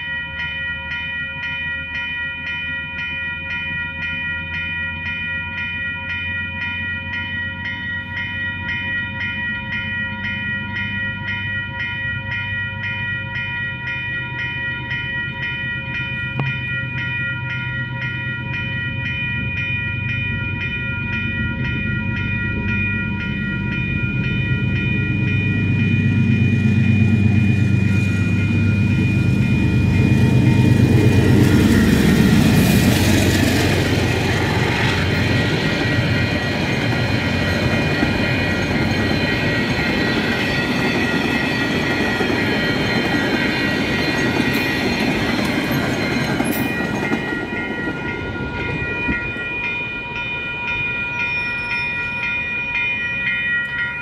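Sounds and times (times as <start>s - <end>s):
diesel locomotives passing: 0.0s - 54.0s
level crossing warning bells: 0.0s - 54.0s.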